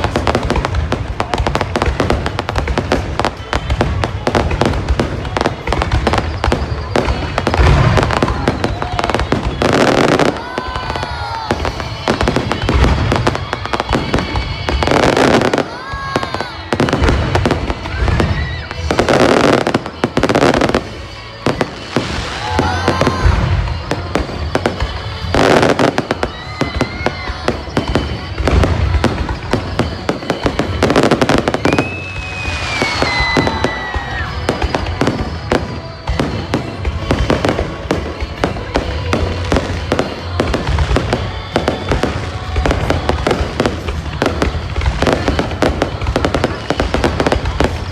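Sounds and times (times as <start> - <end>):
fireworks booming: 0.0 - 47.9
fireworks crackling and popping: 0.0 - 47.9
fireworks whistling: 0.0 - 47.9.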